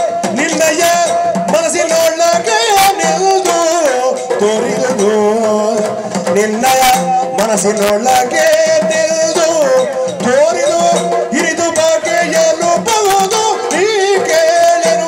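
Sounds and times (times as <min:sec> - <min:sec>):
drum strokes: 0:00.0 - 0:15.0
person singing ornamented lines: 0:00.0 - 0:15.0.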